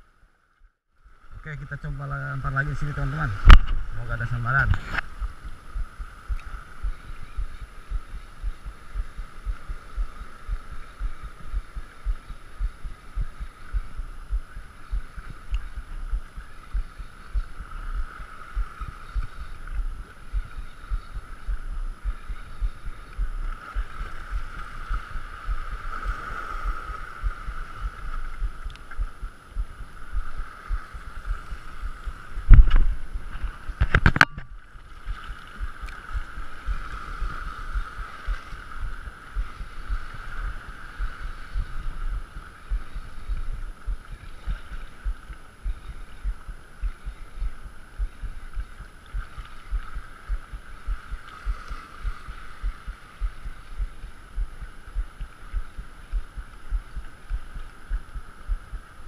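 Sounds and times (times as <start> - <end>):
wind buffeting microphone: 1.3 - 59.0.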